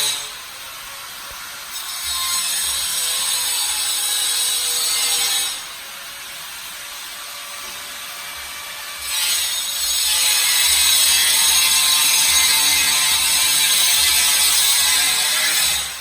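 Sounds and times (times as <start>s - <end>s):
power tool cutting: 0.0s - 16.0s.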